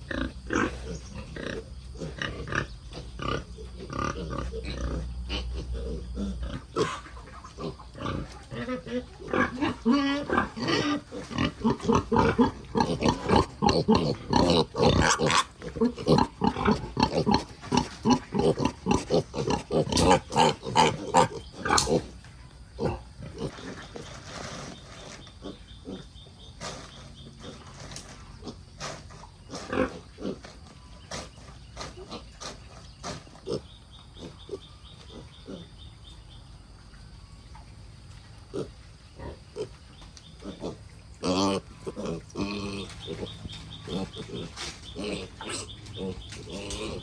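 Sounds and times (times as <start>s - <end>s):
pigs grunting: 0.0s - 36.1s, 38.4s - 47.0s.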